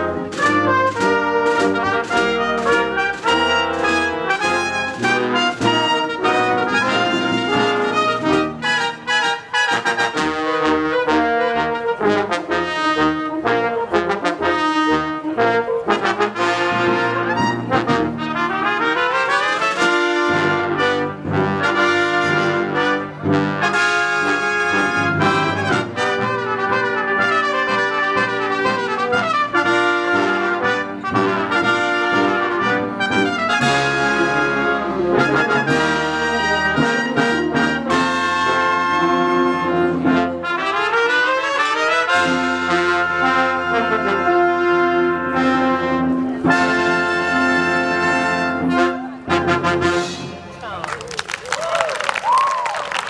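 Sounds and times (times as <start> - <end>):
orchestra playing brass-led passage: 0.0 - 50.9.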